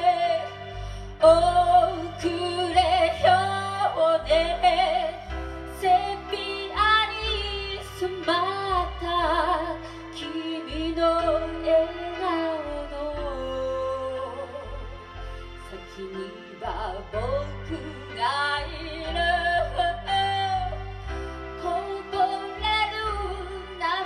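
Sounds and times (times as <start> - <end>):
recorded accompaniment with bass notes: 0.0 - 24.0
woman singing a slow ballad: 0.0 - 24.0.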